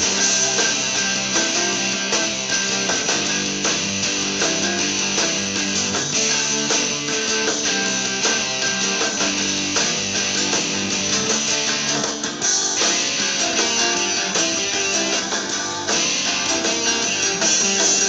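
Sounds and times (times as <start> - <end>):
bluesy guitar playing: 0.0 - 18.0.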